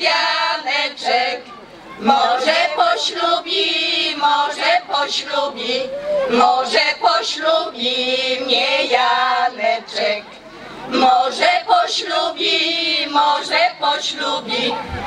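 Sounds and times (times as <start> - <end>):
women's choir singing: 0.0 - 15.0.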